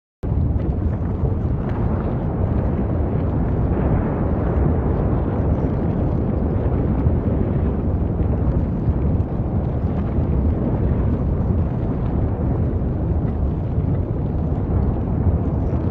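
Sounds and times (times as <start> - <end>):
low rumble of erupting volcano: 0.2 - 15.9.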